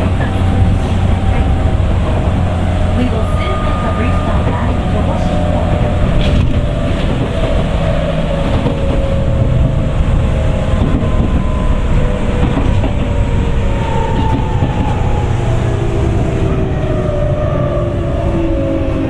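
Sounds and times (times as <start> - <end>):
train wheels and motors rumbling: 0.0 - 19.0.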